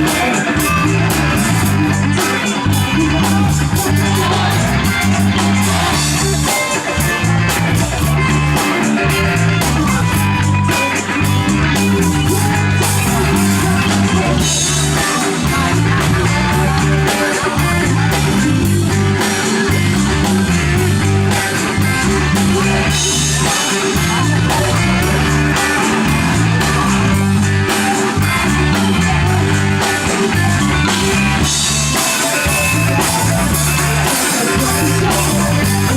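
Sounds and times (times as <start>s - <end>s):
bass notes: 0.0s - 35.9s
electric guitar: 0.0s - 35.9s
steady drum beat: 0.0s - 35.9s.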